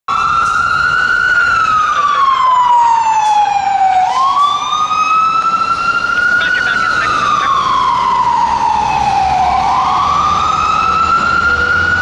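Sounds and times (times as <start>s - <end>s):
fire truck siren wailing: 0.1s - 12.0s.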